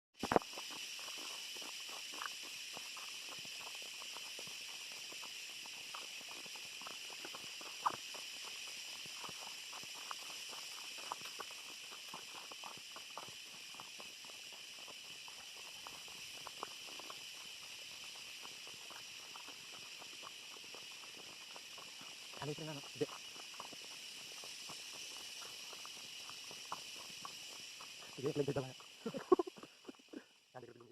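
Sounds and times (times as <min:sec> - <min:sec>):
high-pitched hiss: 0:00.2 - 0:30.9.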